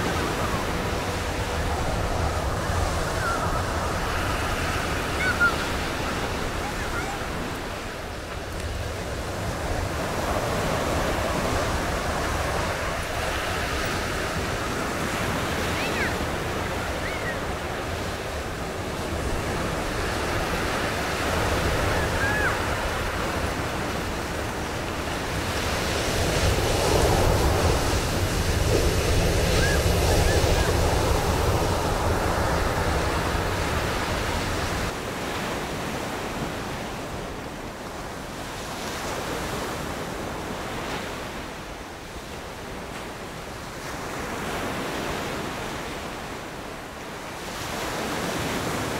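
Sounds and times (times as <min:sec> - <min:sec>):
surf breaking on beach: 0:00.0 - 0:48.9.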